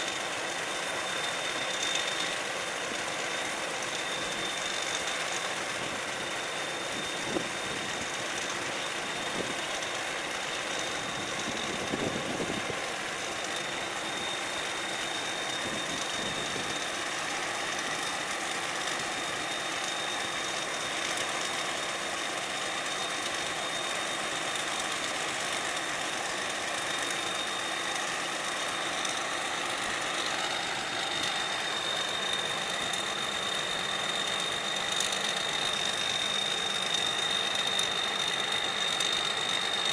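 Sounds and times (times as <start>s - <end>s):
combine harvester engine: 0.0s - 39.9s.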